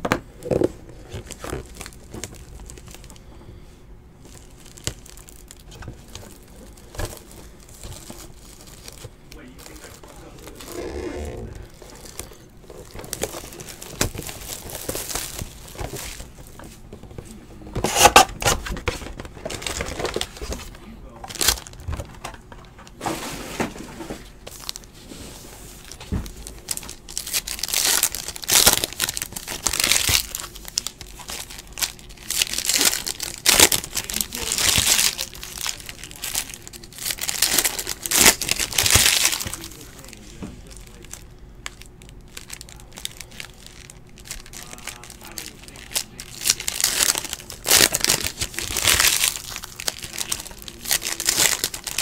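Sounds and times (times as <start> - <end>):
foil wrappers crinkling and tearing: 0.4 - 3.6, 4.2 - 52.0.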